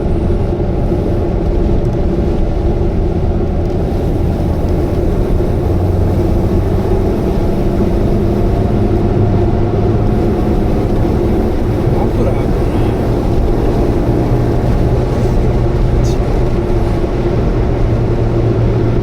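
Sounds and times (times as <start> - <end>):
car engine droning: 0.0 - 19.0
road rumble: 0.0 - 19.0.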